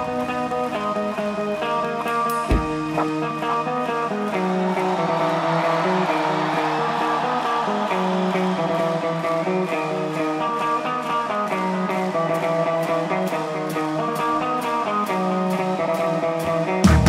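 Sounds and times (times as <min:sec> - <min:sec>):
electric guitar riff: 0:00.0 - 0:17.0.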